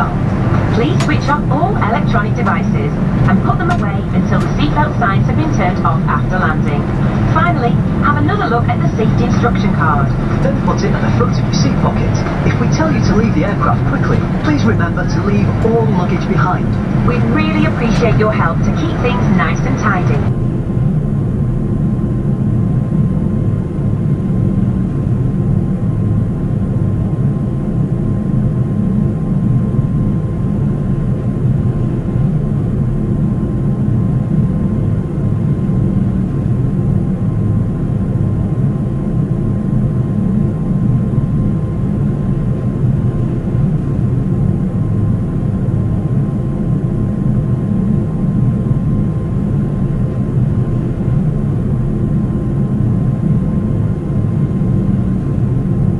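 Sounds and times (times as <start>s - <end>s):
aircraft cabin engine rumble: 0.0s - 55.9s
thin steady whine: 0.0s - 55.9s.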